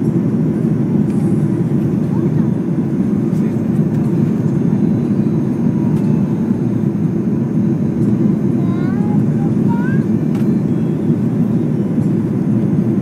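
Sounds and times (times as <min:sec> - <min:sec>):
jet airliner cabin roar: 0:00.0 - 0:13.0.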